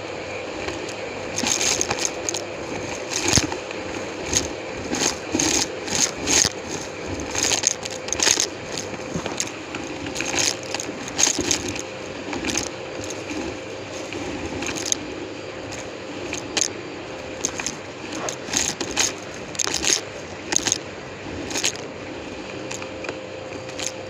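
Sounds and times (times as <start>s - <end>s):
vacuum cleaner humming: 0.0s - 24.0s
debris clicking through hose: 0.6s - 24.0s.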